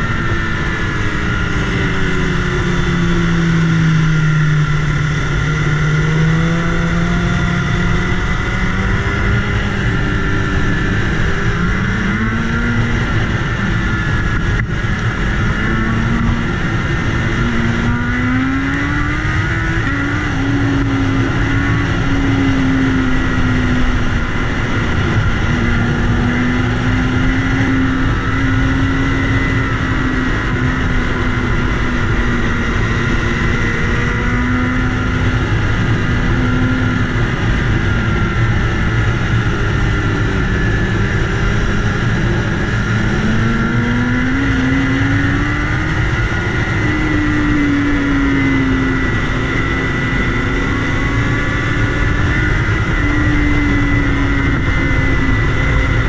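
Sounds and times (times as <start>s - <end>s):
motorcycle engine revving: 0.0s - 56.0s
wind rush over microphone: 0.0s - 56.0s.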